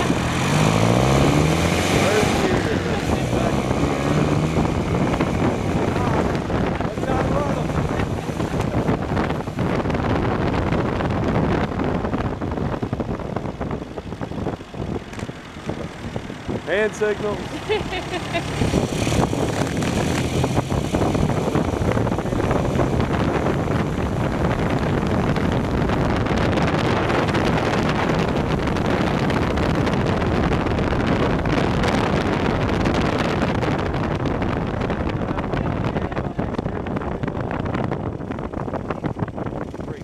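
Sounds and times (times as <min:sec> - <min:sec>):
car engine running: 0:00.0 - 0:40.0
wind rushing over microphone: 0:00.0 - 0:40.0.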